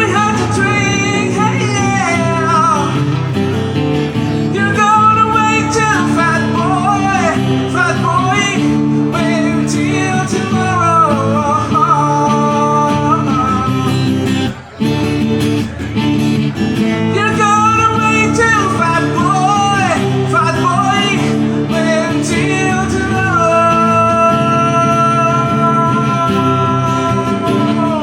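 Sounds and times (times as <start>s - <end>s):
person singing: 0.0s - 14.8s, 16.8s - 28.0s
guitar accompaniment: 0.0s - 28.0s.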